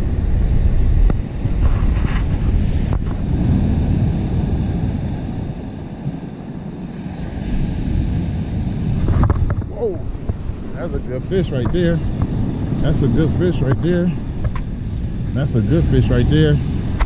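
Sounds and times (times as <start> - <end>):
wind buffeting microphone: 0.0 - 17.0
surf breaking: 1.3 - 17.0.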